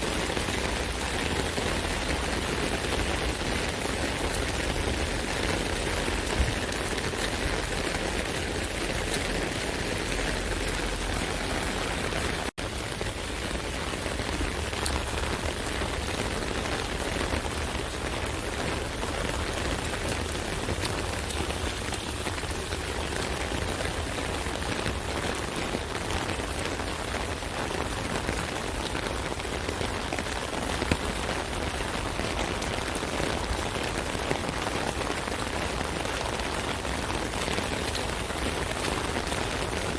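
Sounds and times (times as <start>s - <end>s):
rain on an umbrella: 0.0s - 39.9s.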